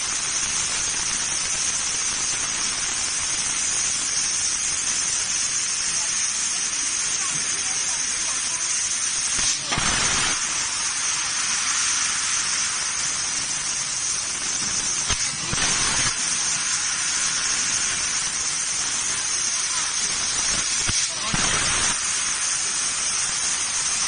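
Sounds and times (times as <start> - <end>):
gas jet hissing through nozzle: 0.0 - 24.0.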